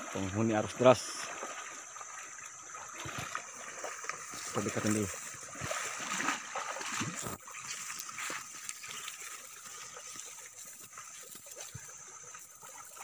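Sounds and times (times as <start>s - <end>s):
river current flowing: 0.0s - 13.0s
small water splashes: 0.0s - 13.0s.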